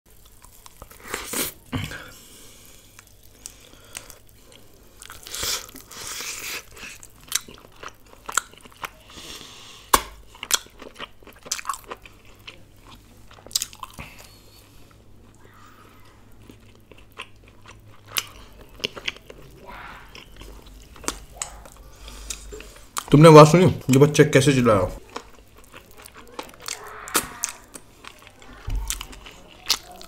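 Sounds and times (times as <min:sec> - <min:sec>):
biting and chewing food: 0:02.9 - 0:23.2, 0:24.9 - 0:30.0.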